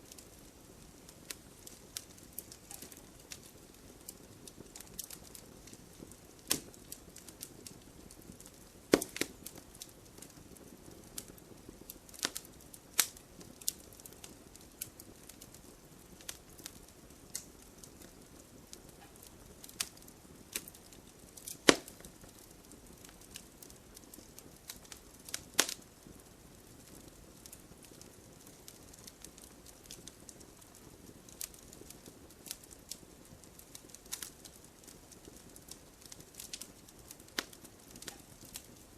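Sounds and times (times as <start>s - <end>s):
campfire crackling and snapping: 0.0s - 38.9s
soft steady hiss: 0.0s - 38.9s.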